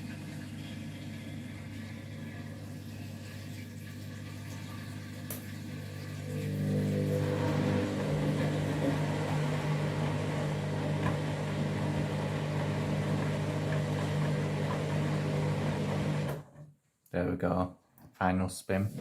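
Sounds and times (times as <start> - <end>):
washing machine spinning: 0.0 - 16.6.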